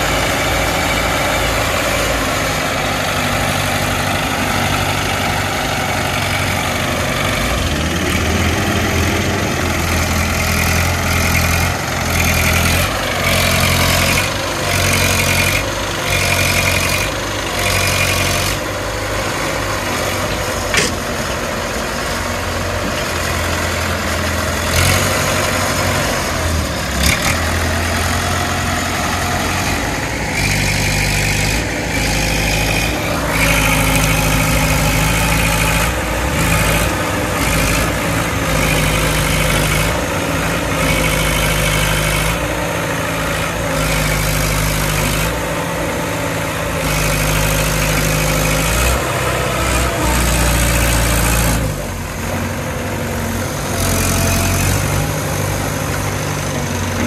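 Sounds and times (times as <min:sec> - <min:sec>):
crane diesel engine running: 0:00.0 - 0:57.0.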